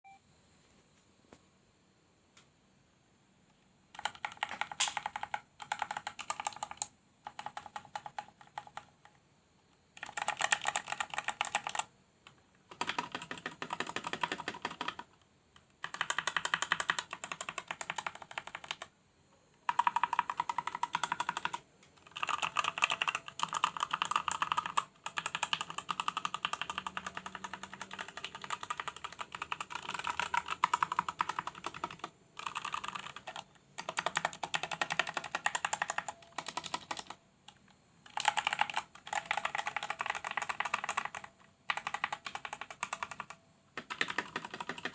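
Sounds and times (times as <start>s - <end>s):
mechanical keyboard typing: 3.9s - 9.2s, 9.9s - 18.9s, 19.6s - 44.9s.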